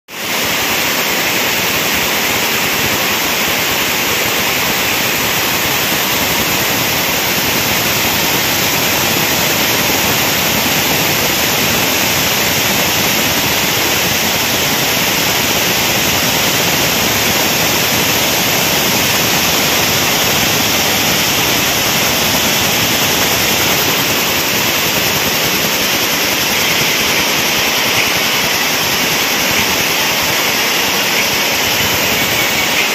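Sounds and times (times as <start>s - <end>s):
power looms running: 0.2s - 32.9s.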